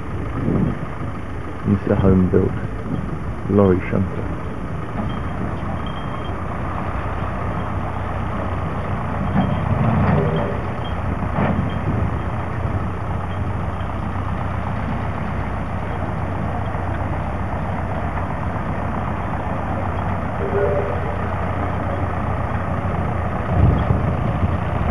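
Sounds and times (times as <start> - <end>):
shunting vehicle engine humming: 0.0 - 24.9.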